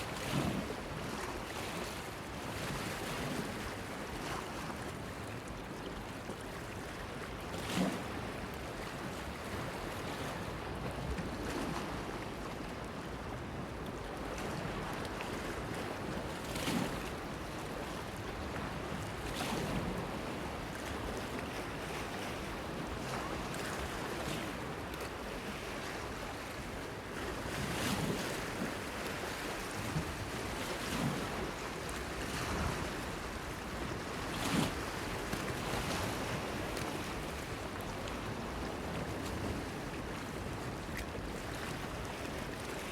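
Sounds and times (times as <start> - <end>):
wind: 0.0 - 42.9.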